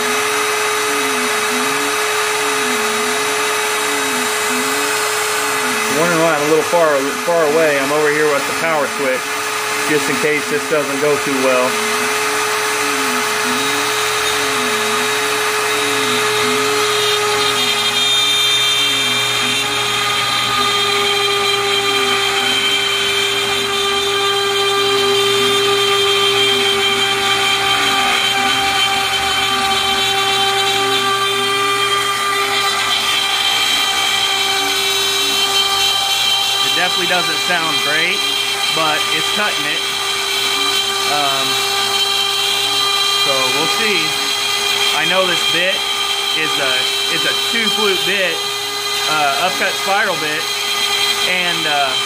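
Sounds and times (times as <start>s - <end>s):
router bit whining cutting aluminium: 0.0s - 52.0s.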